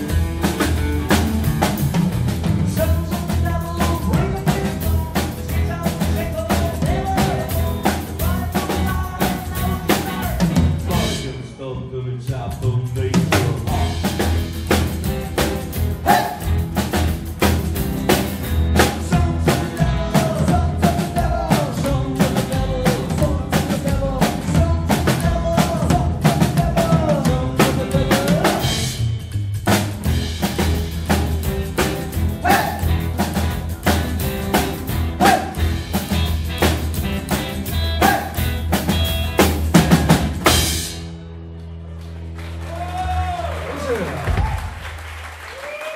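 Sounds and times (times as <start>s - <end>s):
rockabilly band playing: 0.0s - 45.9s.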